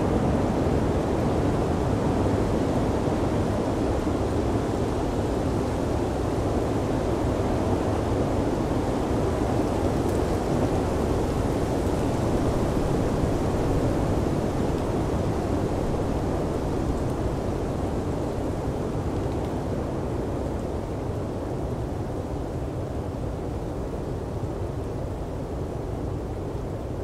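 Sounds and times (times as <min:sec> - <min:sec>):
blizzard wind rushing: 0:00.0 - 0:27.0.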